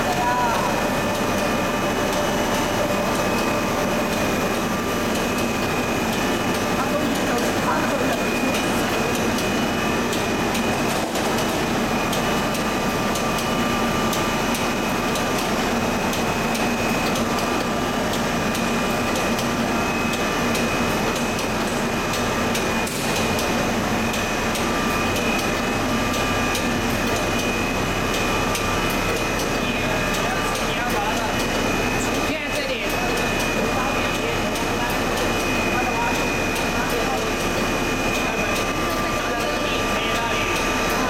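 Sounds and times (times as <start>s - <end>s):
high machine whine: 0.0s - 41.0s
machinery low hum: 0.0s - 41.0s.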